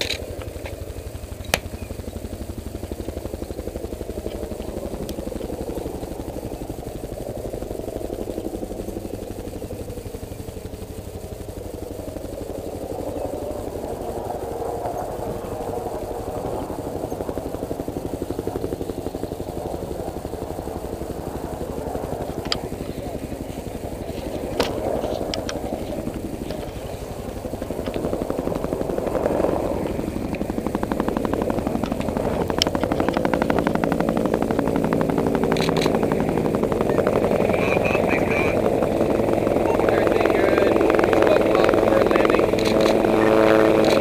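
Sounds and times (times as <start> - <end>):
helicopter engine: 0.0 - 44.0
helicopter rotor beat: 0.0 - 44.0.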